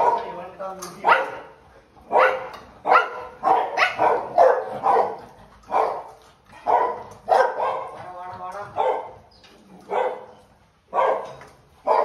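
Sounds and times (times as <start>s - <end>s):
large dog barking deeply: 0.0s - 0.4s, 1.0s - 9.3s, 9.9s - 10.3s, 10.9s - 12.0s.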